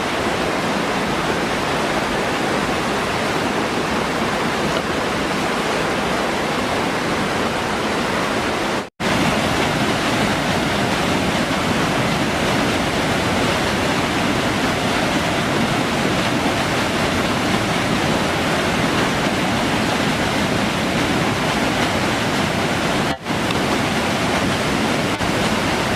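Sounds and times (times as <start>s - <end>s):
loud rushing water: 0.0s - 25.9s.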